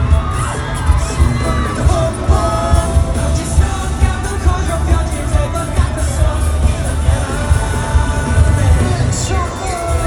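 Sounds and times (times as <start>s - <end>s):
heavy drum beat: 0.0s - 10.0s
live pop music: 0.0s - 10.0s
person singing: 0.0s - 10.0s.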